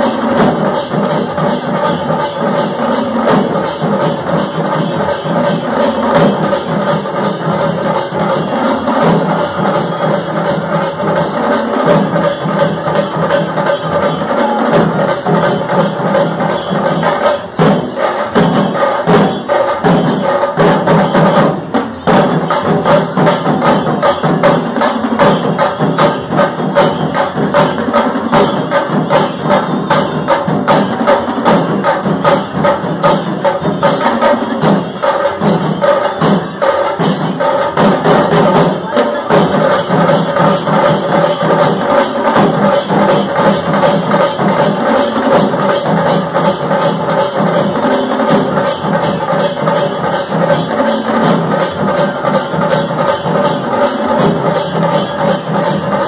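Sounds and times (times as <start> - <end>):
percussion ensemble drumming: 0.0 - 56.0.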